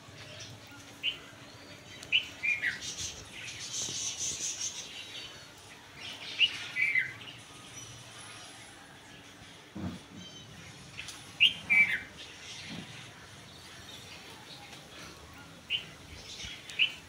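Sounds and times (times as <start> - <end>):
small birds chirping: 0.0 - 8.6, 10.2 - 17.0.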